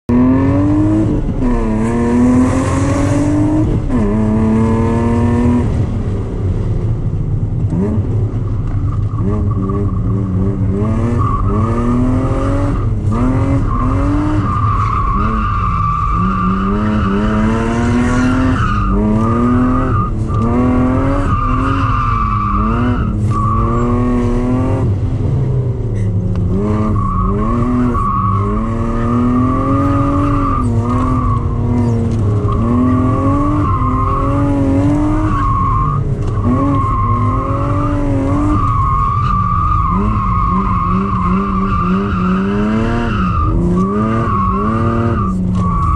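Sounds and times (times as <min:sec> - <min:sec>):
car engine revving: 0:00.1 - 0:45.9.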